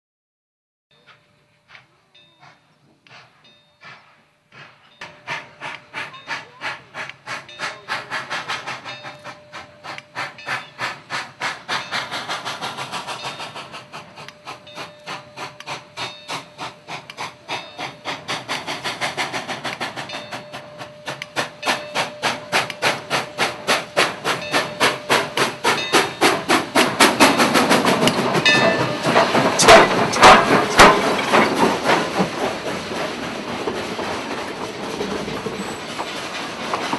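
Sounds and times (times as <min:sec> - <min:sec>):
steam locomotive chuffing: 0:01.0 - 0:36.9
steam hissing: 0:01.7 - 0:36.9.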